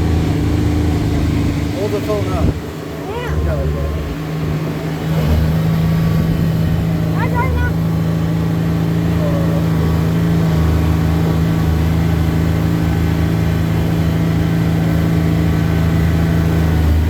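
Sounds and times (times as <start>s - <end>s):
car engine at raised revs: 0.0s - 17.0s.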